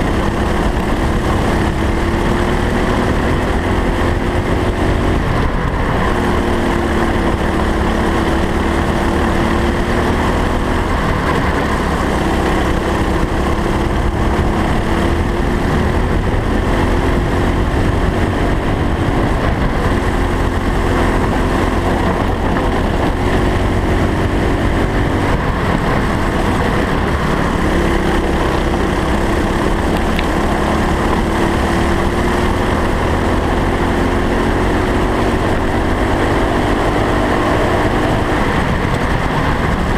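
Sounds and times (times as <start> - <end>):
low rumble: 0.0 - 39.9
racing kart engine: 0.0 - 39.9.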